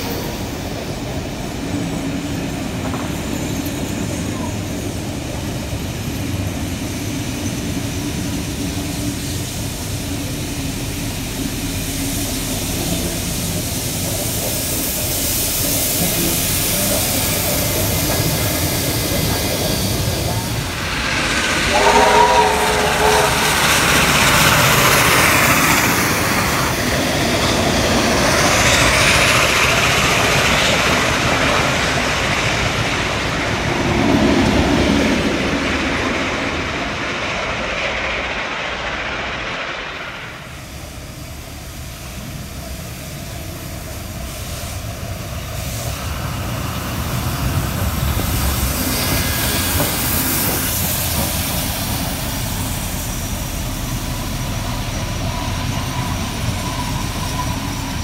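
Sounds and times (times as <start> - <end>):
train rumbling past on rails: 0.0 - 58.0.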